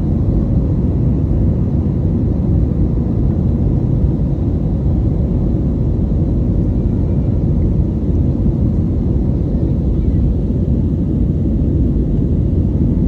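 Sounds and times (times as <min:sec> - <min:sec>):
airplane engine rumble: 0:00.0 - 0:13.0.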